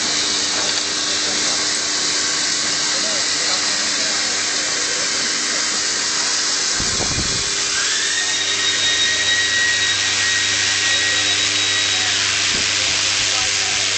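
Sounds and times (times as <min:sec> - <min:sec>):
machine whine: 0:00.0 - 0:13.9
machinery hiss: 0:00.0 - 0:13.9.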